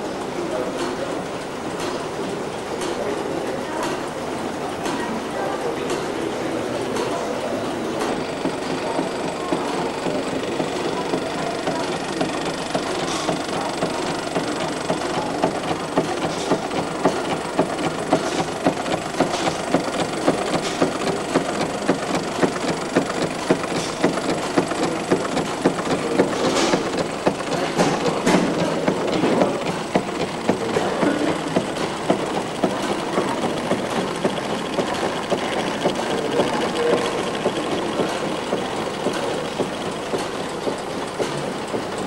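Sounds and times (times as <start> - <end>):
old engine knocking and clattering: 0.2 - 42.0.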